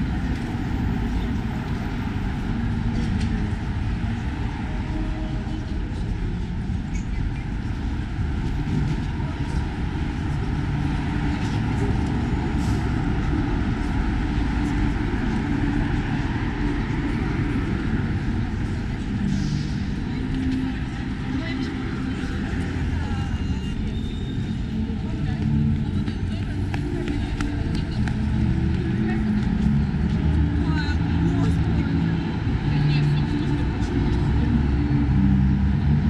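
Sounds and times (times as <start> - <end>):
low rumble of road traffic: 0.0 - 36.0.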